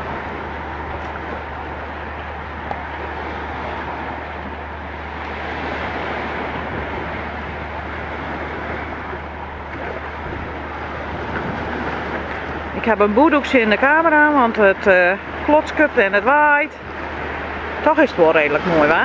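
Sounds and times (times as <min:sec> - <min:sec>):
wind blowing on microphone: 0:00.0 - 0:19.0.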